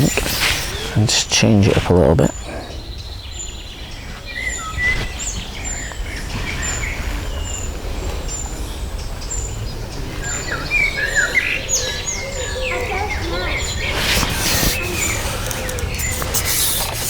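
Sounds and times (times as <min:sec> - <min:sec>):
small songbirds singing: 0:00.0 - 0:17.0.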